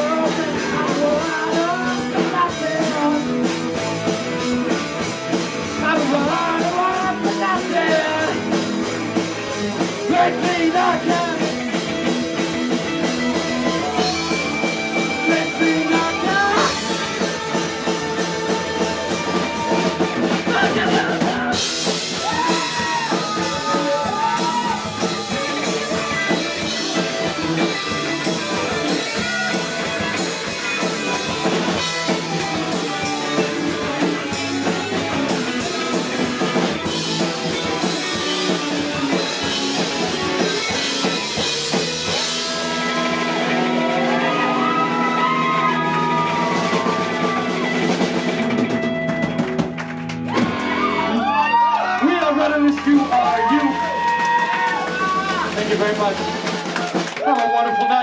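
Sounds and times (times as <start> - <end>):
bending electric guitar: 0.0 - 51.4
drum kit with cymbals: 0.0 - 51.4.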